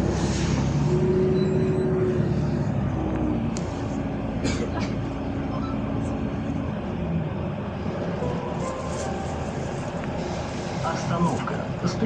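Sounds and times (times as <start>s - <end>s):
bus drivetrain hum: 0.0s - 12.0s
road noise: 0.0s - 12.0s.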